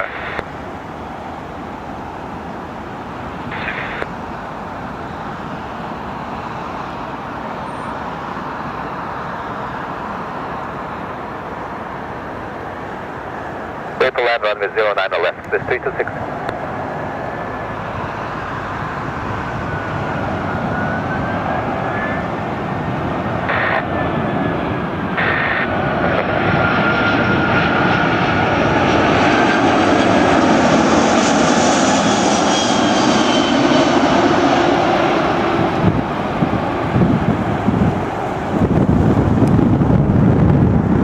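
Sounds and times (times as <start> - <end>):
jet engine rumble with whine: 0.0 - 41.0.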